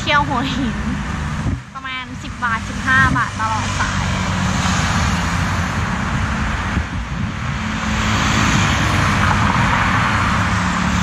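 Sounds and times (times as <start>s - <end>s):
car engines: 0.0s - 11.0s
motorbike engines: 0.0s - 11.0s.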